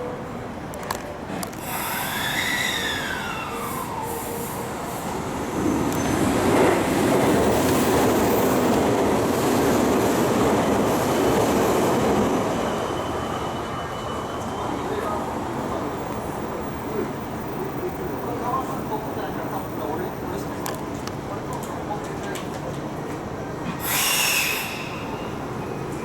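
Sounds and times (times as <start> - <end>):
train wheels rumbling on rails: 0.6 - 26.0.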